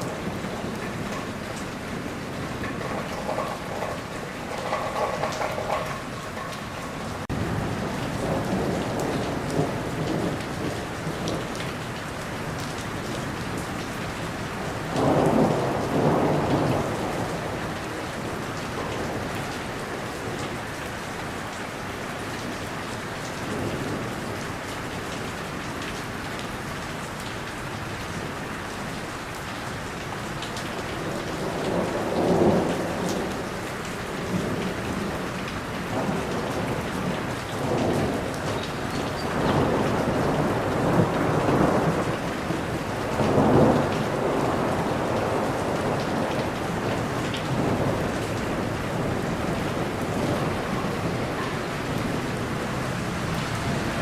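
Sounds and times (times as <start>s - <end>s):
thunder rumbling: 0.0s - 20.6s, 30.6s - 54.0s
rain falling: 0.0s - 54.0s.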